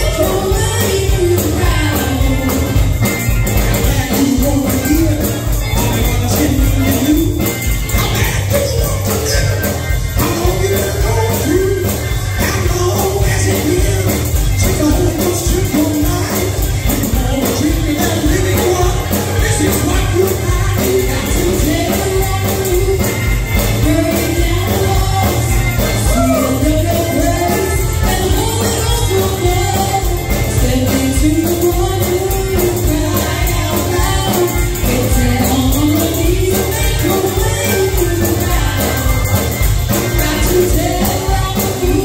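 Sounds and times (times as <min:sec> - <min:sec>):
person singing gospel: 0:00.0 - 0:42.0
steady tambourine: 0:00.0 - 0:42.0.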